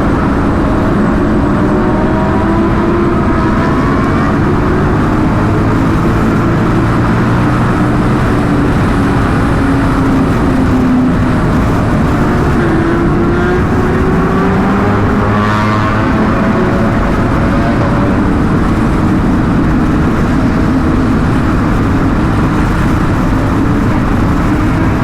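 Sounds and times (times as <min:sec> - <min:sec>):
motorcycle engine running hard: 0:00.0 - 0:25.0
steady rushing noise: 0:00.0 - 0:25.0.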